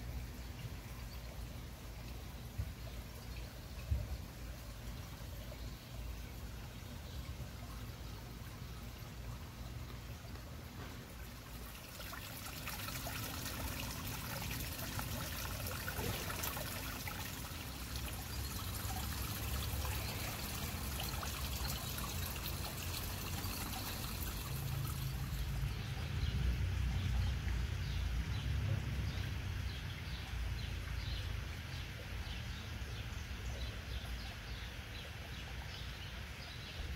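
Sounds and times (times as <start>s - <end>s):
trickling water: 0.0s - 36.9s.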